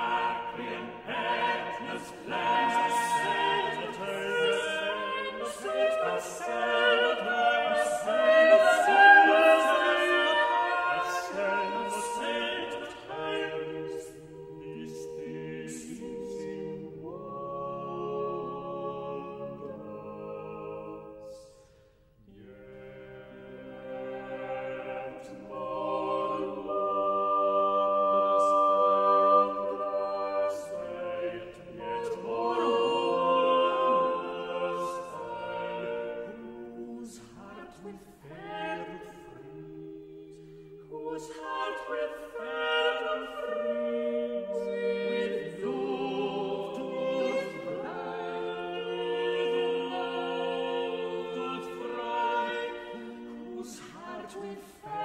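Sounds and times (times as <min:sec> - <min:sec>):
unaccompanied vocal ensemble singing: 0:00.0 - 0:55.0.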